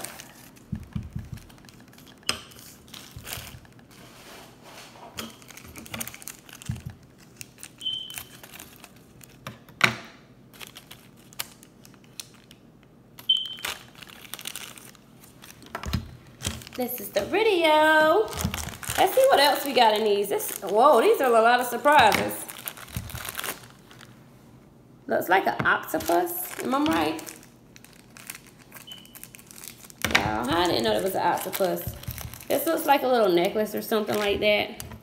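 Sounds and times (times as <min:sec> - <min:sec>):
plastic wrapper crinkling: 0:00.0 - 0:04.2, 0:05.1 - 0:09.5, 0:10.5 - 0:24.2, 0:25.8 - 0:35.0.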